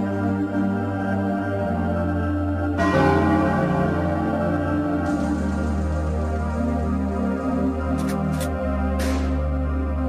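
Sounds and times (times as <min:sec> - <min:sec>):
ambient organ-like keyboard chords: 0:00.0 - 0:10.0.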